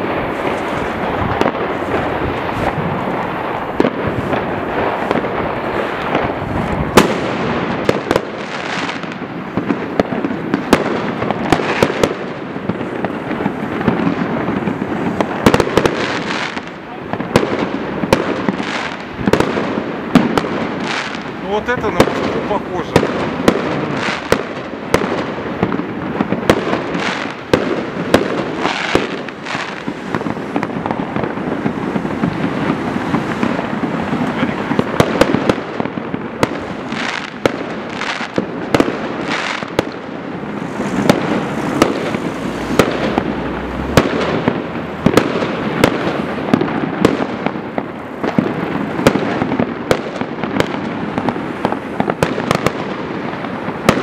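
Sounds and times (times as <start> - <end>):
sharp bangs: 0.0 - 53.0
fireworks and firecrackers crackling: 0.0 - 54.0.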